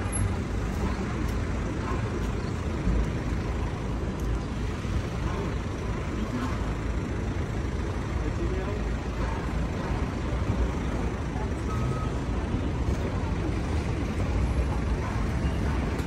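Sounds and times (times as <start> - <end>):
rumble of passing cars and buses: 0.0 - 16.0
faint voices: 0.2 - 16.0.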